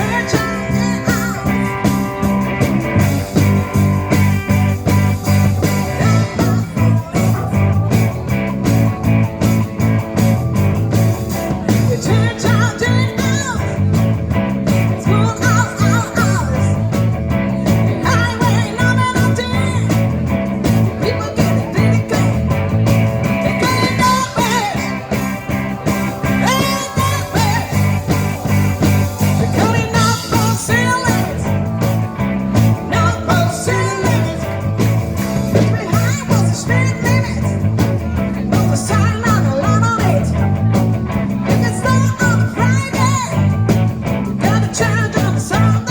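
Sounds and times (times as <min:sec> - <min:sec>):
bending guitar melody: 0:00.0 - 0:45.9
rock band playing live: 0:00.0 - 0:45.9.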